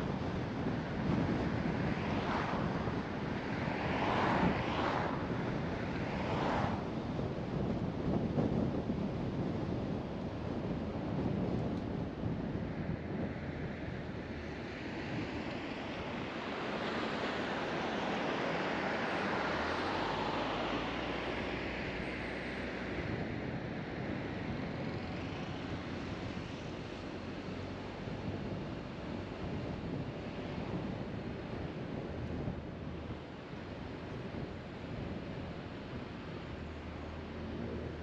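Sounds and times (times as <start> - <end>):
car road and wind noise: 0.0 - 38.0.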